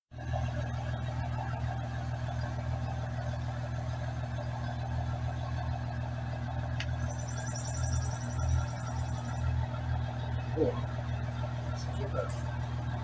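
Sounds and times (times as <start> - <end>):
engine idling: 0.2 - 13.0.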